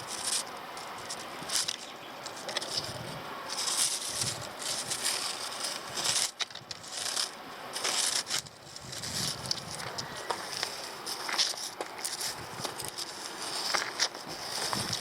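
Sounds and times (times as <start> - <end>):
dry grass rustling: 0.0 - 15.0.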